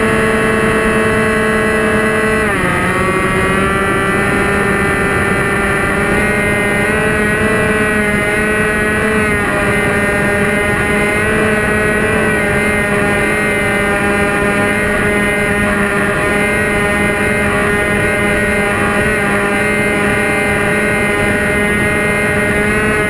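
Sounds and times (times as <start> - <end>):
electric motor and propeller whine: 0.0 - 23.0
wind rushing over microphone: 0.0 - 23.0.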